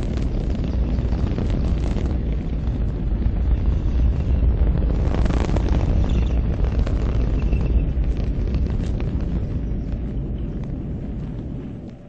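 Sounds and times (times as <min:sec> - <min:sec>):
deep fireball rumble: 0:00.0 - 0:12.0
fire crackling: 0:00.0 - 0:12.0.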